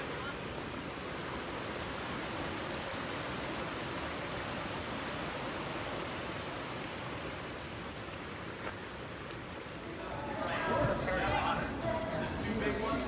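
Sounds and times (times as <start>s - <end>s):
creek flowing over rocks: 0.0s - 13.0s.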